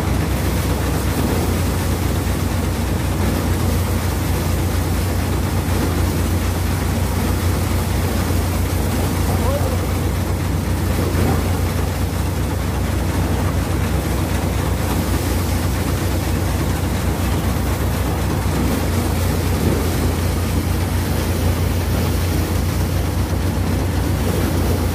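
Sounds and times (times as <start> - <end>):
constant rushing noise: 0.0 - 24.9
thresher deep hum: 0.0 - 24.9.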